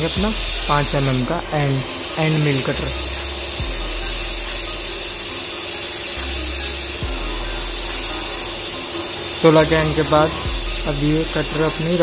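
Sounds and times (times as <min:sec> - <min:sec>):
coolant hiss: 0:00.0 - 0:12.0
low hum: 0:00.0 - 0:12.0
milling machine cutting: 0:00.0 - 0:12.0.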